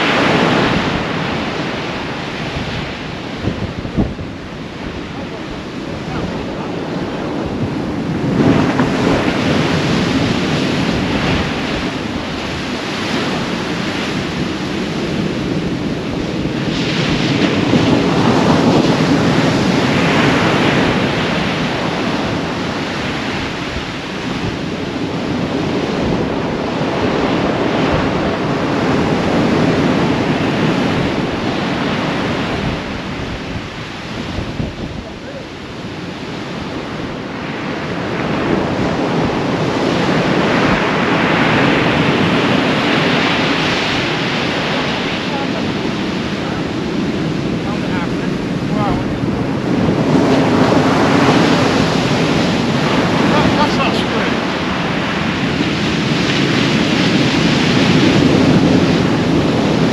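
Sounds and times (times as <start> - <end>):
surf crashing on beach: 0.0 - 59.9
wind buffeting microphone: 0.0 - 59.9.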